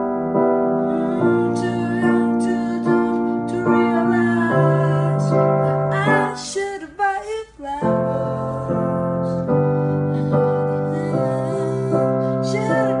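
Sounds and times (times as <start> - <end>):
piano chords: 0.0 - 13.0
person singing: 0.7 - 13.0.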